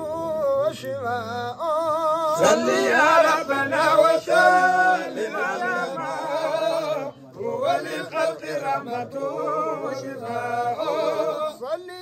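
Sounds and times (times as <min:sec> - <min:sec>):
men chanting devotional poetry: 0:00.0 - 0:12.0.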